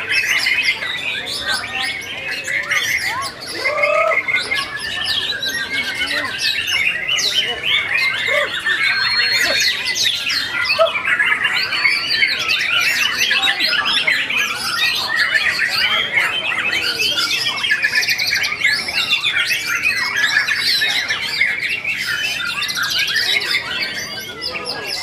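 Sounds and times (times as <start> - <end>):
birds singing whistled trills: 0.0 - 25.0.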